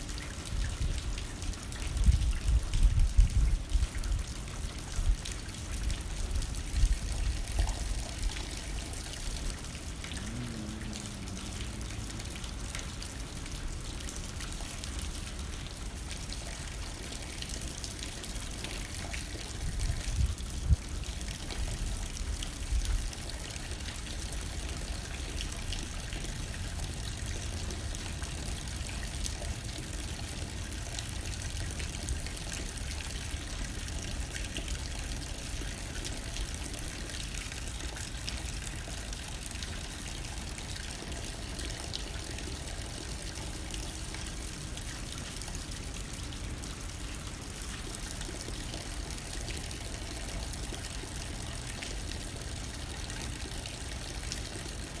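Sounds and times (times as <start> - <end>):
water trickling and pouring: 0.0 - 55.0
rain hitting a window: 0.1 - 55.0.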